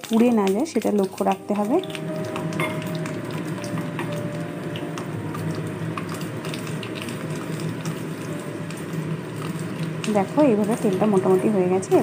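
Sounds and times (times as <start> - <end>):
crackle of small pops: 0.0 - 11.3
oil sizzling in a pan: 0.0 - 12.0.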